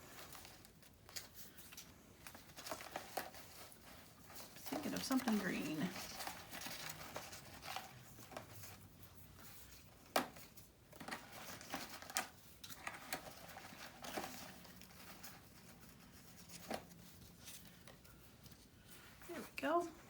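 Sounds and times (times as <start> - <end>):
paper rustling: 0.0 - 19.9.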